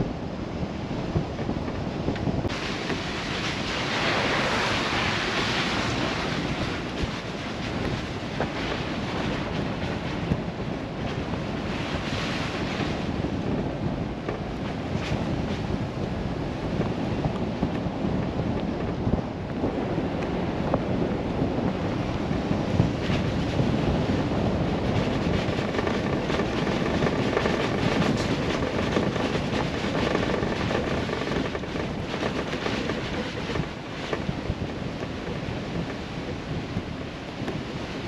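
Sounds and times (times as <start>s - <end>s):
tyre and wind rumble: 0.0s - 38.0s.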